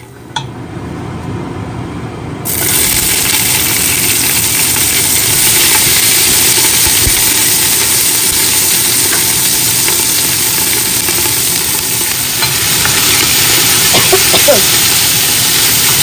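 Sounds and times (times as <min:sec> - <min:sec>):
food sizzling in hot oil: 0:02.5 - 0:16.0.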